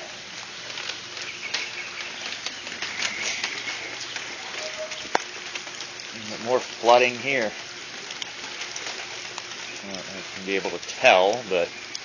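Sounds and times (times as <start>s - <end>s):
light rain hissing: 0.0s - 12.0s
water drips ticking: 0.3s - 12.0s.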